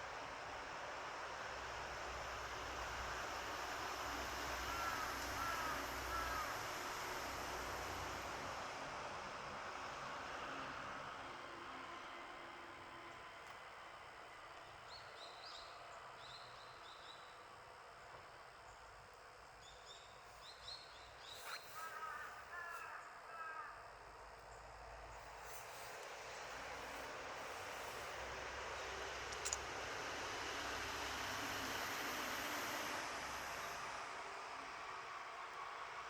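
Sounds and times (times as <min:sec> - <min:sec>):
seaside background hiss: 0:00.0 - 0:36.0.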